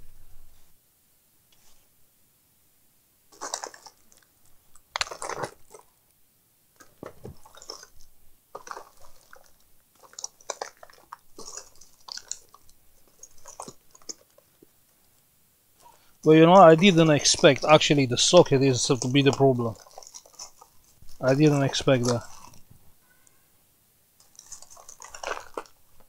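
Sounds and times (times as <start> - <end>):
rustling and crinkling: 1.5 - 2.0, 3.3 - 23.4, 24.2 - 26.0.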